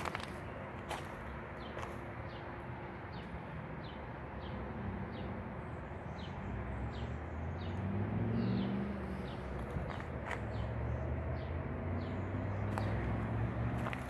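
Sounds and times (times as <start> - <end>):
passing vehicle rumble: 0.0 - 14.0.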